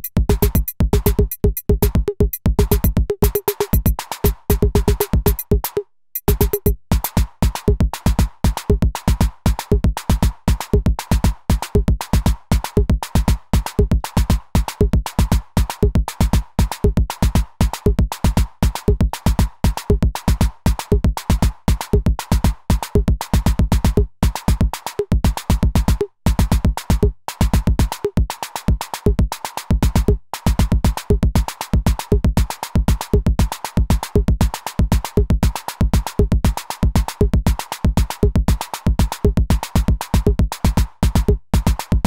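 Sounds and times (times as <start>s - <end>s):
electronic drum pattern: 0.0s - 42.0s.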